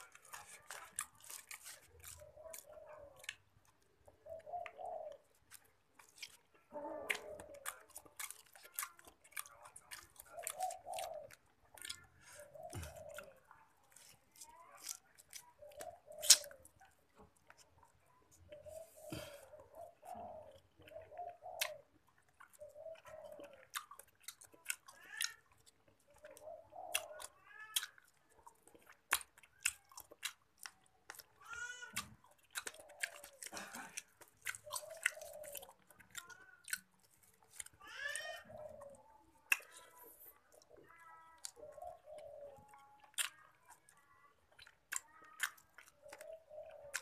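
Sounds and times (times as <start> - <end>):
person chewing with lip-smacks: 0.0 - 47.0.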